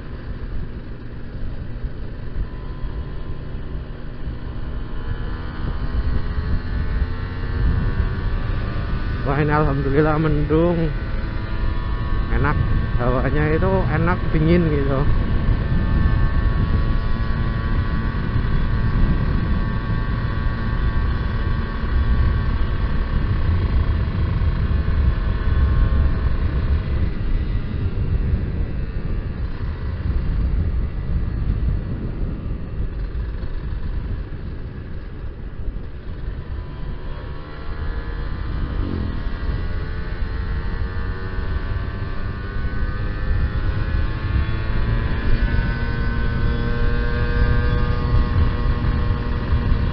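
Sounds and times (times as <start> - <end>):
two-stroke motorcycle engine: 0.0 - 49.9
wind on microphone: 0.0 - 49.9.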